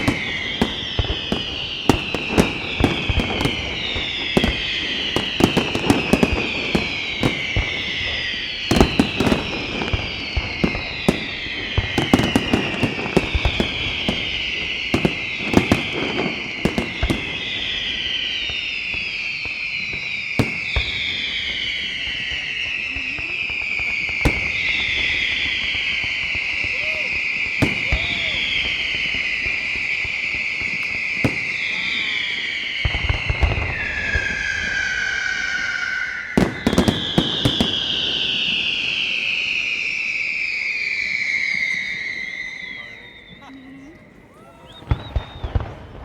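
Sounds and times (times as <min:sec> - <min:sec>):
firework bangs: 0:00.0 - 0:46.0
whistling firework shells: 0:00.0 - 0:46.0.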